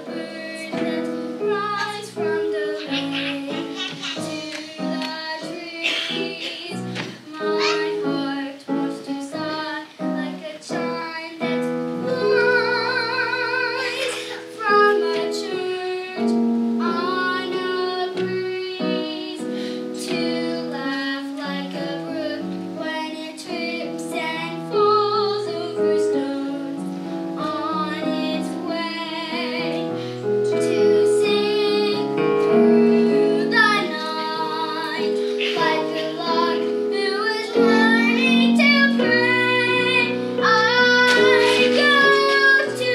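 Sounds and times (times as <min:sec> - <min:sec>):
girl singing: 0:00.0 - 0:42.9
instrumental accompaniment: 0:00.0 - 0:42.9.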